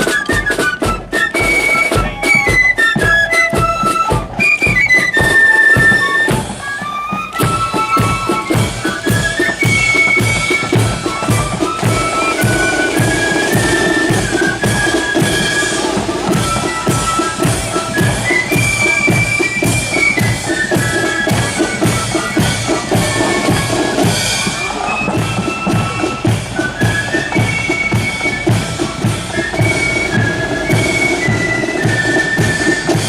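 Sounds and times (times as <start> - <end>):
high flute melody: 0.0 - 33.0
marching drums beating: 0.0 - 33.0.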